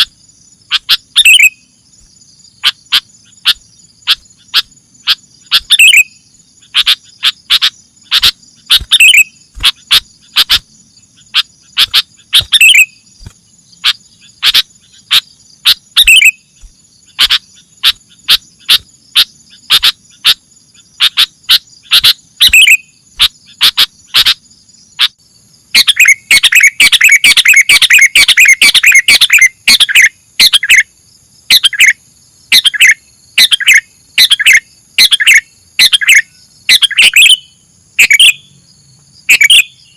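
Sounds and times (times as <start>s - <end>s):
high insect buzz: 0.0s - 39.9s
bird whistled calls: 0.7s - 1.7s, 2.6s - 10.7s, 11.3s - 13.2s, 13.8s - 20.4s, 21.0s - 24.4s, 25.8s - 30.9s, 31.5s - 38.6s, 39.3s - 39.9s.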